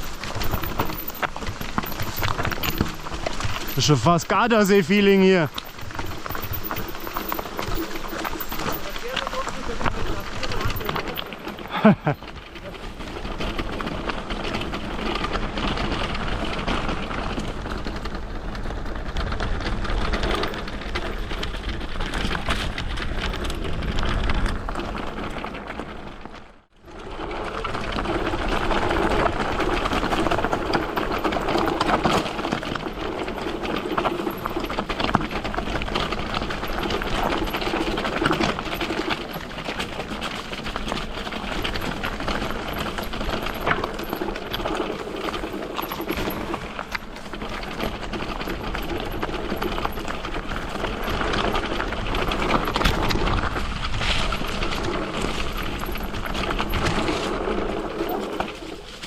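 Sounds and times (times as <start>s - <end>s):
bike tyres rattling over trail: 0.0s - 59.0s.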